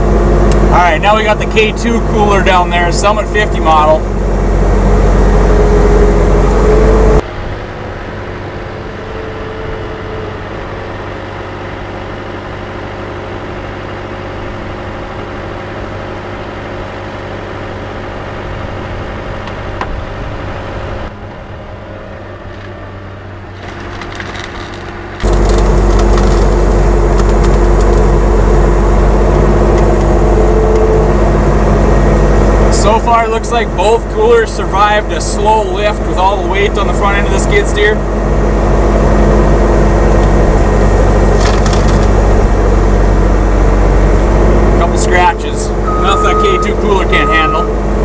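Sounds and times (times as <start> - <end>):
skid steer engine running: 0.0 - 48.0.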